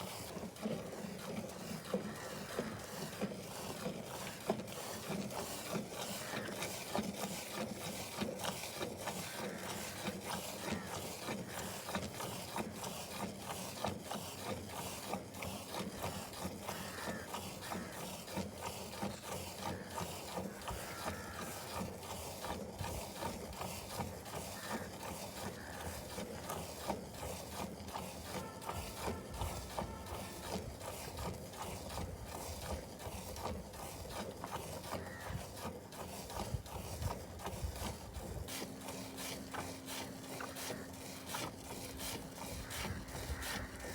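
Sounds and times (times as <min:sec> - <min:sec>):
cow being milked: 0:00.0 - 0:43.9.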